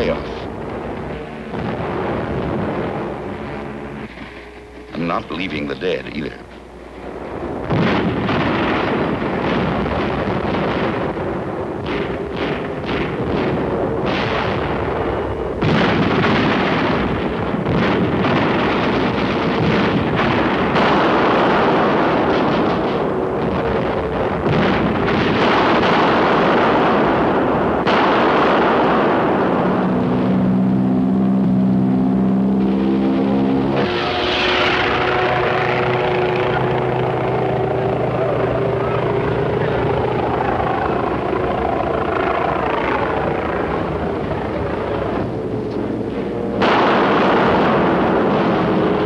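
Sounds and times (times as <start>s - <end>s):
sharp gunshot reports: 0.0s - 6.4s, 7.7s - 30.5s, 33.2s - 41.6s, 42.2s - 49.0s
propeller aircraft engine drone: 0.0s - 49.0s
rumble of explosions and gunfire: 0.0s - 49.0s.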